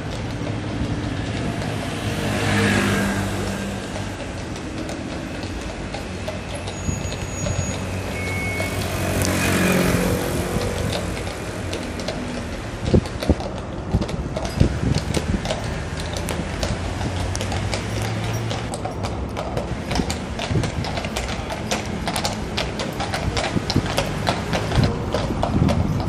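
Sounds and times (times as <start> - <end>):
horse hooves on asphalt: 0.0 - 26.0
traffic engines humming: 0.0 - 26.0.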